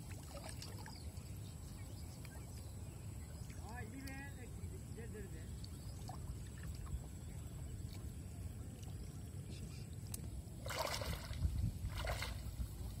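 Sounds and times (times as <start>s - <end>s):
wading and splashing in water: 0.0s - 4.3s, 5.5s - 13.0s.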